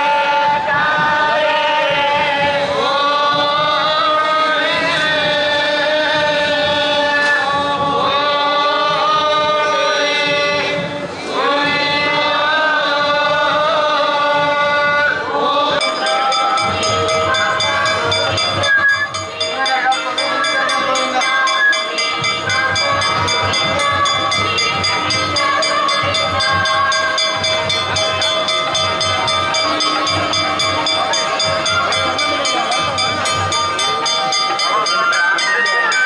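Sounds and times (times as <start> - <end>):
voices chanting: 0.0 - 36.0.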